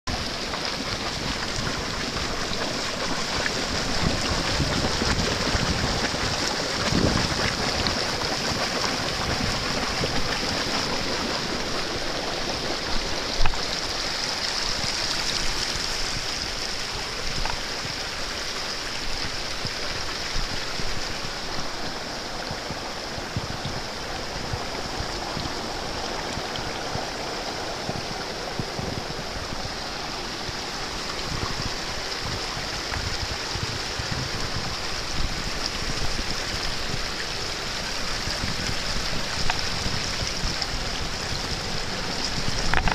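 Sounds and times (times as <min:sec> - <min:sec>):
hot water bubbling over rocks: 0:00.1 - 0:42.9.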